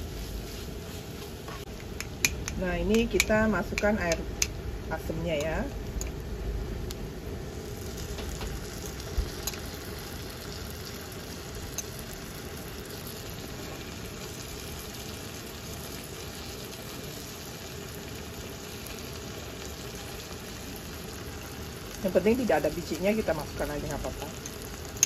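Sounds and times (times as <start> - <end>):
sauce sizzling in a frying pan: 0.0 - 25.0.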